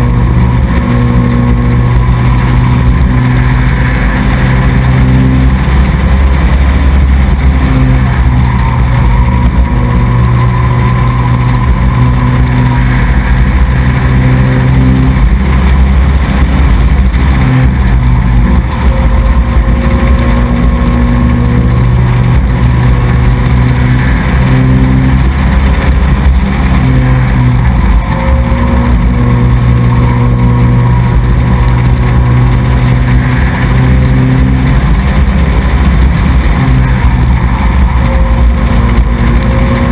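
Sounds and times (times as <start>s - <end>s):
racing truck engine running: 0.0s - 39.9s.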